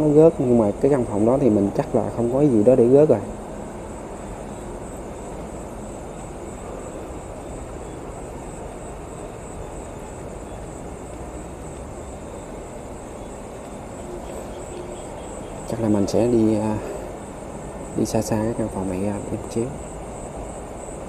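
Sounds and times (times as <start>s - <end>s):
insects chirring: 0.0s - 21.0s
low rumble and hiss: 0.0s - 21.0s.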